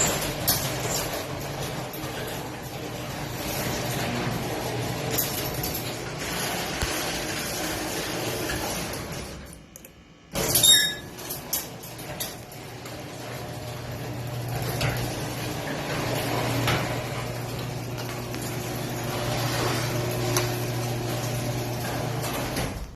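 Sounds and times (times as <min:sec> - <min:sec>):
garage door motor hum: 0:00.0 - 0:22.9
garage door opener clunk: 0:00.0 - 0:22.9
garage door rattling: 0:00.0 - 0:22.9.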